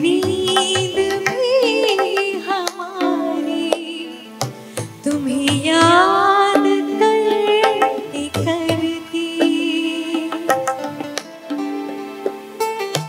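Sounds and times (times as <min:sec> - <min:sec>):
woman singing slow song: 0:00.0 - 0:11.1
tabla strokes: 0:00.0 - 0:13.0.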